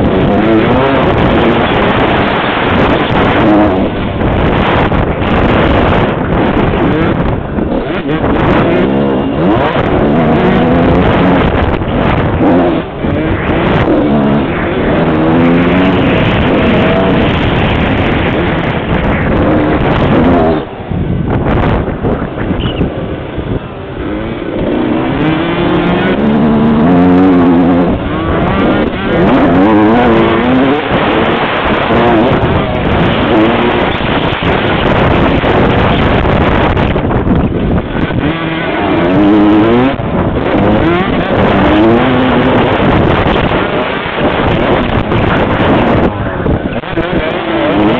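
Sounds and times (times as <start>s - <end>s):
two-stroke motorcycle engine revving: 0.0s - 47.9s
wind rushing over microphone: 0.0s - 47.9s.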